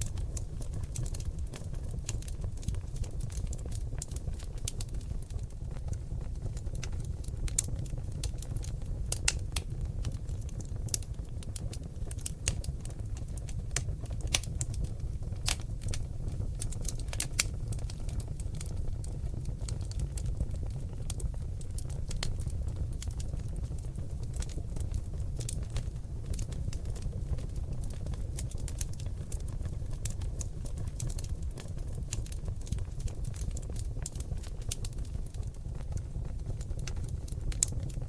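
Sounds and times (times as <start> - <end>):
logs crackling in a fireplace: 0.0 - 38.0.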